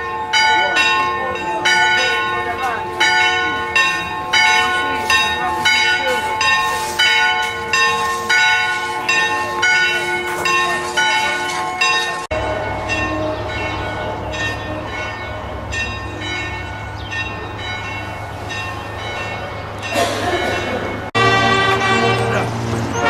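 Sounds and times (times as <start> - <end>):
church bells pealing: 0.0 - 23.0.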